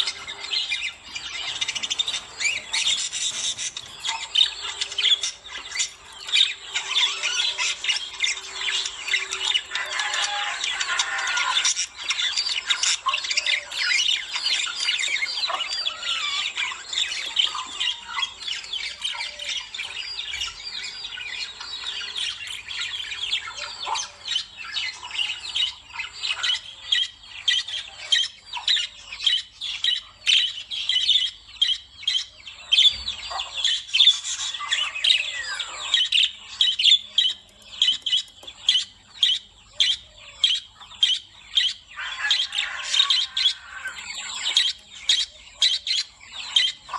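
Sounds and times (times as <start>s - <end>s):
lovebirds chattering and squawking: 0.0s - 46.9s.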